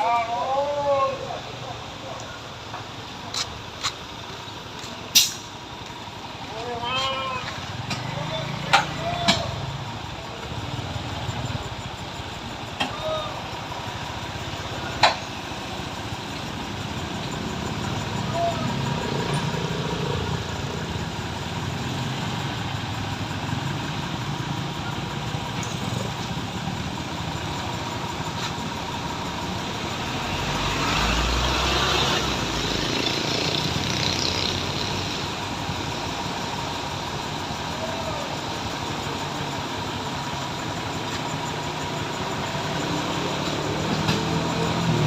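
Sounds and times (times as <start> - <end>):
truck engine idling: 0.0 - 45.0
engine rush and deep rumble: 1.0 - 45.0.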